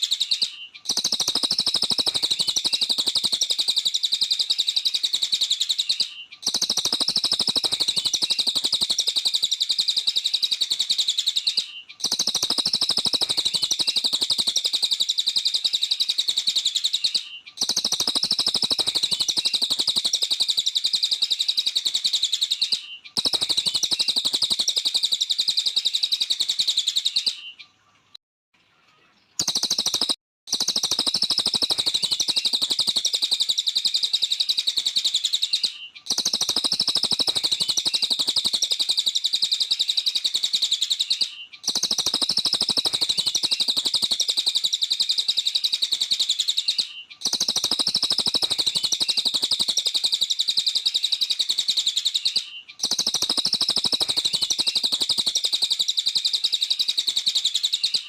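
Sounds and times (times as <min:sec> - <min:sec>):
songbird high-pitched chirping song: 0:00.0 - 0:58.0.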